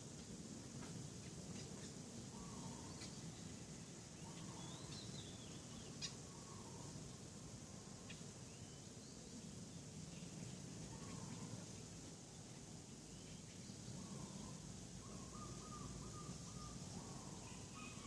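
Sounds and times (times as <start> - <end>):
low steady background noise: 0.0 - 18.0.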